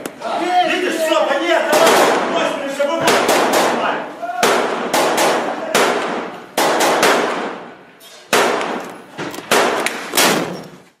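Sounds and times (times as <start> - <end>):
echoing gunshots: 1.6 - 10.5.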